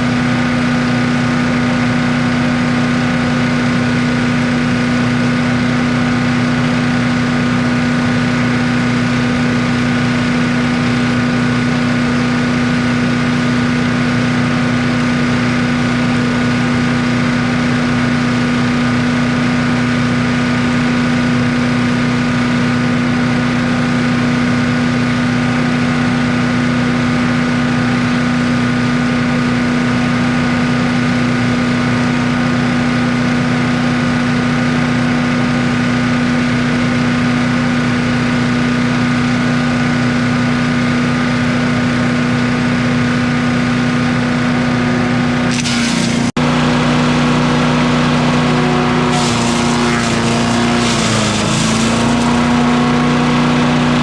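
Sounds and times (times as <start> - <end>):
engine humming steadily: 0.0 - 54.0.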